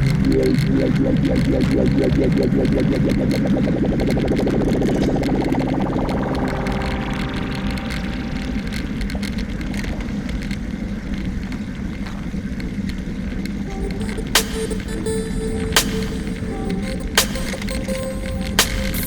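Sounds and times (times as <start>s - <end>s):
vehicle engine pulsing: 0.0s - 19.0s.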